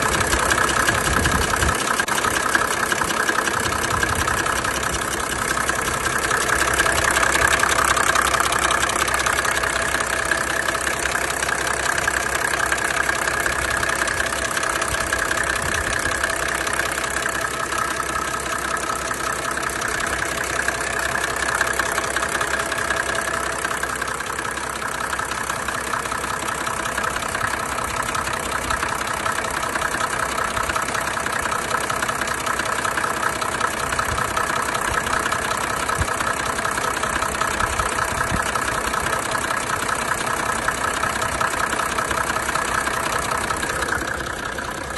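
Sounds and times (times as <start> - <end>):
diesel engine idling: 0.0 - 44.9
engine knocking and tapping: 0.0 - 44.9.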